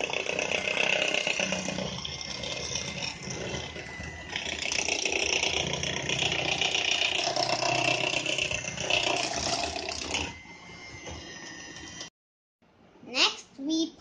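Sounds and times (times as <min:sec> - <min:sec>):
electric hand mixer whirring: 0:00.0 - 0:12.1.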